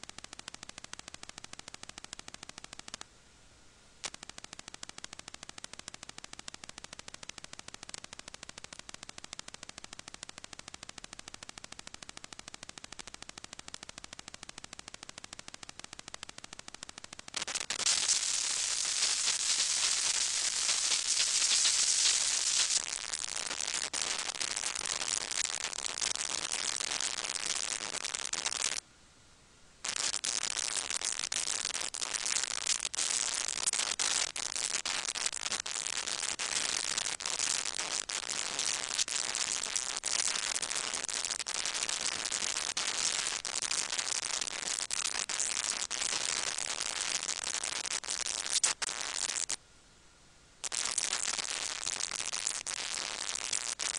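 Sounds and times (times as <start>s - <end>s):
crackling static: 0.0s - 28.9s, 29.7s - 49.7s, 50.5s - 53.9s.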